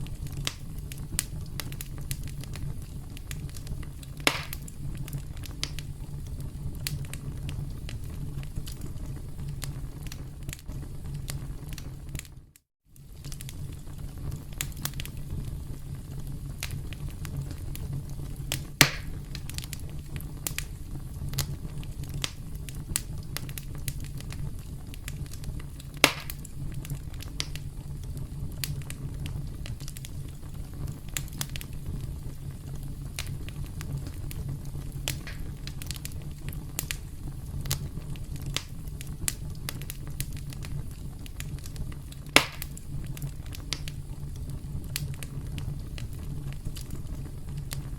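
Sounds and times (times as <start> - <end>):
burning wood snapping and popping: 0.0 - 12.4, 13.0 - 47.9
campfire flames rumbling: 0.0 - 47.9.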